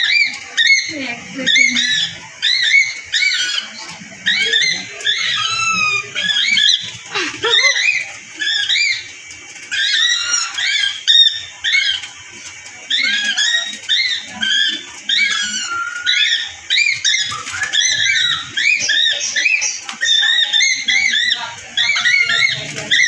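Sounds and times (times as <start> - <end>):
parrots chattering: 0.0 - 23.0.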